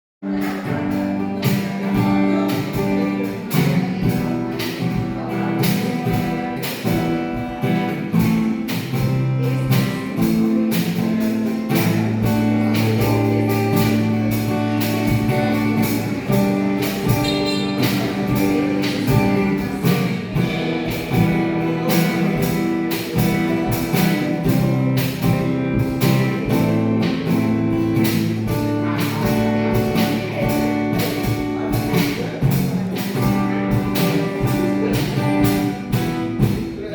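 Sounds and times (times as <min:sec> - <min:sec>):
guitar chords: 0:00.2 - 0:36.9
steady beat: 0:00.3 - 0:36.9
sustained bass line: 0:00.3 - 0:36.9.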